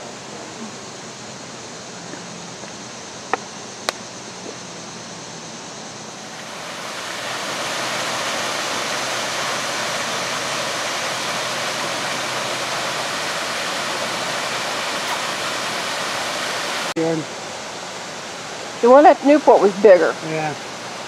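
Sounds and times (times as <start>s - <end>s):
steady rushing noise: 0.0s - 19.4s.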